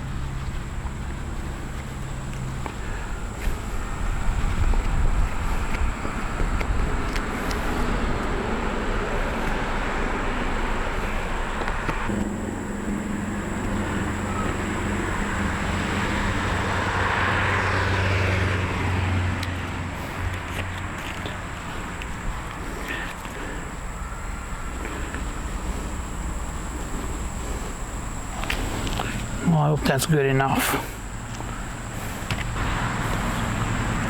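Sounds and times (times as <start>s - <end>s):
low engine hum: 0.0s - 34.0s
road traffic rushing: 0.0s - 34.0s
vehicle passing by: 0.0s - 34.0s.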